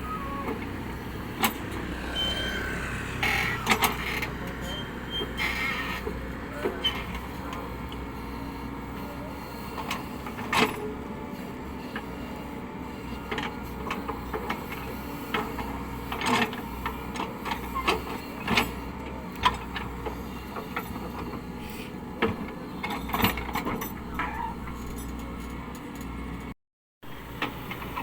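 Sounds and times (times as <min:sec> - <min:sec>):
excavator diesel engine running: 0:00.0 - 0:26.5.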